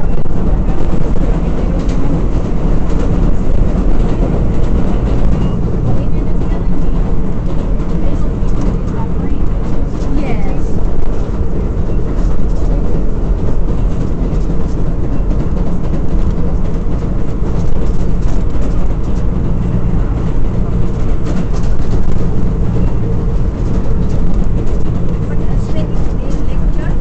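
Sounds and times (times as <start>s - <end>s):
subway wheels rumbling on rails: 0.0s - 27.0s.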